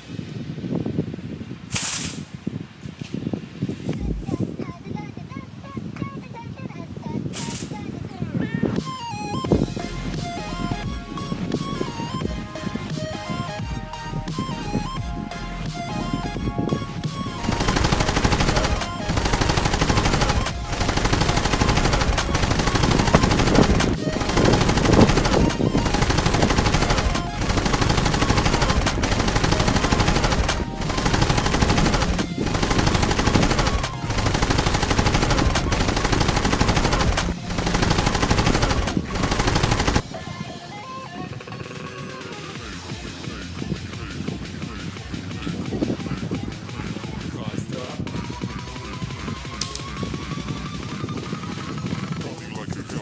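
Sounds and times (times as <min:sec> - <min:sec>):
loud background music: 0:08.8 - 0:52.2.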